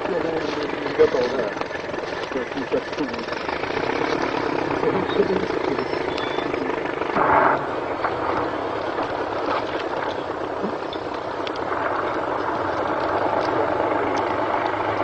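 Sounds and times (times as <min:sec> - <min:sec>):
heavy vehicle engine under load: 0:00.0 - 0:15.0
low hum: 0:00.0 - 0:15.0.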